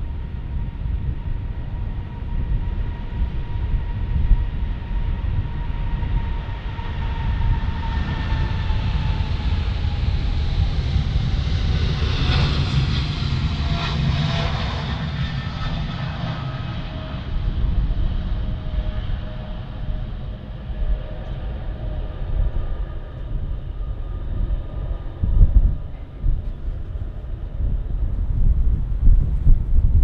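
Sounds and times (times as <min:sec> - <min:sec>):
jet aircraft passing: 0:00.0 - 0:30.0
wind buffeting microphone: 0:00.0 - 0:30.0.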